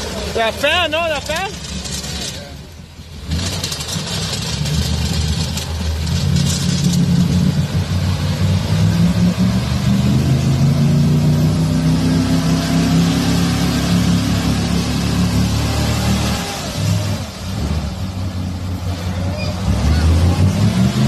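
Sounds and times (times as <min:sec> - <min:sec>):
tires spinning in mud: 0:00.0 - 0:21.0
truck engine revving: 0:00.0 - 0:21.0.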